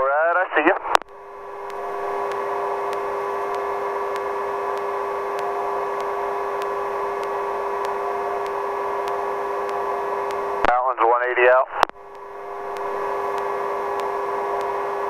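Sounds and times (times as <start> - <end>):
helicopter hum over radio: 0.0 - 15.0
fixed tones: 1.0 - 10.7, 11.7 - 15.0.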